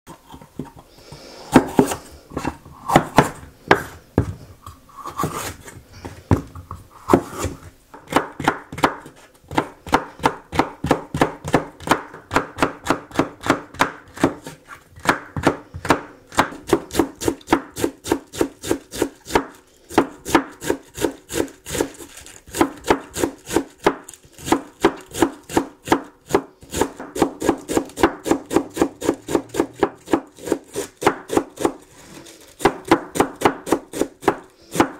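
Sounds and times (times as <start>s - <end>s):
knife chopping on wooden board: 1.5s - 4.3s, 7.1s - 21.9s, 22.5s - 31.8s, 32.6s - 34.9s.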